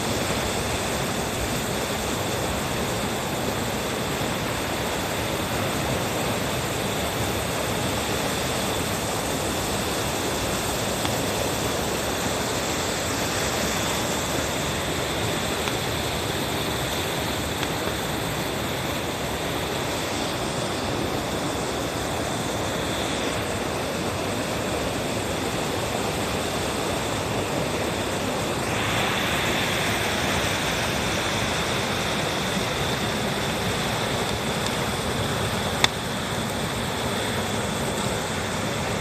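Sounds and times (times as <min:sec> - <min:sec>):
campfire burning: 0:00.0 - 0:39.0
fire popping: 0:00.0 - 0:39.0.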